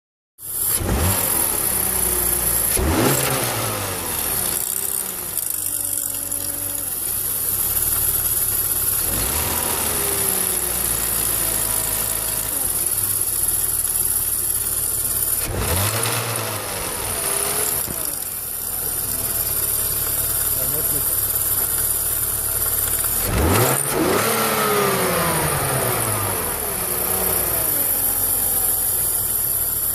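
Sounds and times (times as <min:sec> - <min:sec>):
car engine idling and revving: 0:00.4 - 0:29.9.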